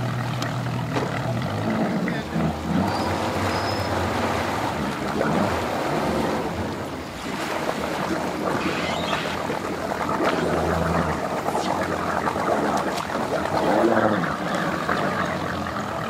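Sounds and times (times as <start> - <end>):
outboard motor running: 0.0 - 16.0
propeller churning water: 0.0 - 16.0.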